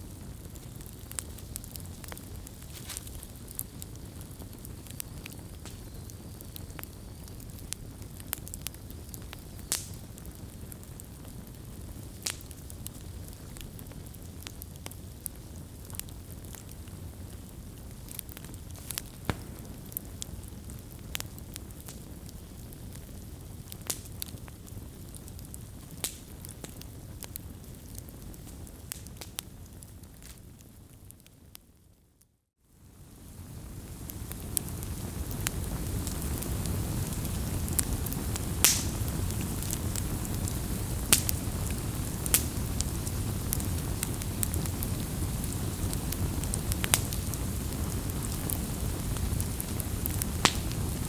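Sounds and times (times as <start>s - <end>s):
wood fire crackling: 0.0s - 31.6s, 32.8s - 51.0s.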